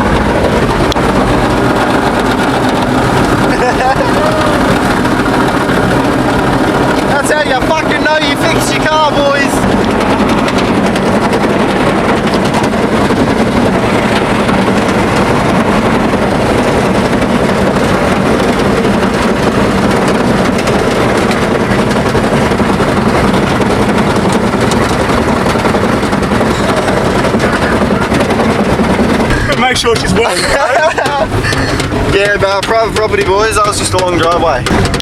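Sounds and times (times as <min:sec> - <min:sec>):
car engine running loudly: 0:00.0 - 0:35.0
dense rushing noise: 0:00.0 - 0:35.0.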